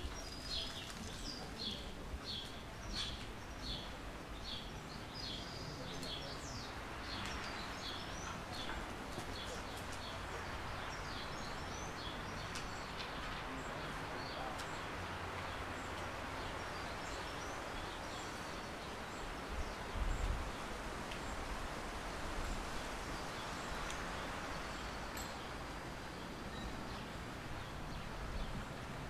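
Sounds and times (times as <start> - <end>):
small birds chirping: 0.0 - 21.7, 22.4 - 29.0
steady outdoor hiss: 0.0 - 29.0.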